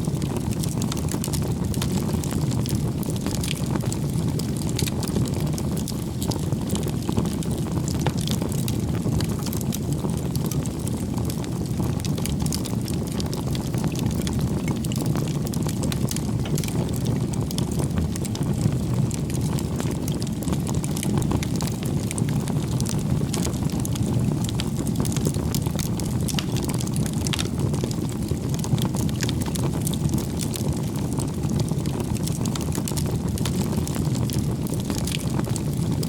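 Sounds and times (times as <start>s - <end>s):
bonfire flames crackling: 0.0s - 36.0s.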